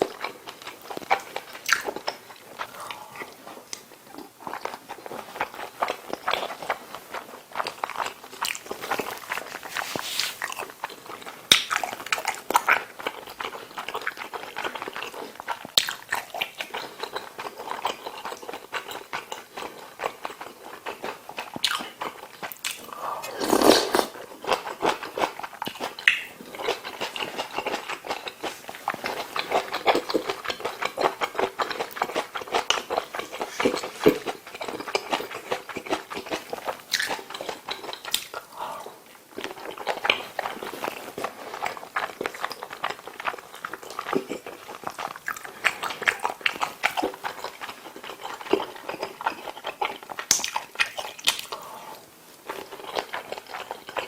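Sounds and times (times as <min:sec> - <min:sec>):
person chewing wetly: 0:00.0 - 0:54.0.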